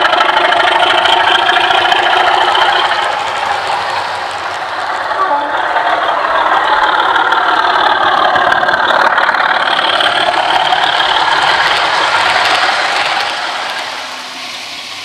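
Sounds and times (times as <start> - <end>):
diesel engine sound from small speaker: 0.0 - 15.0.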